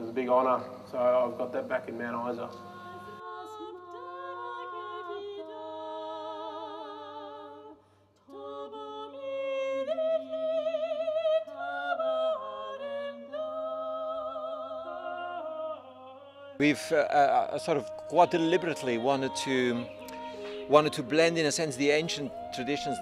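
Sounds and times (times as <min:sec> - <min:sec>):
vocal ensemble singing in harmony: 0:02.2 - 0:23.0.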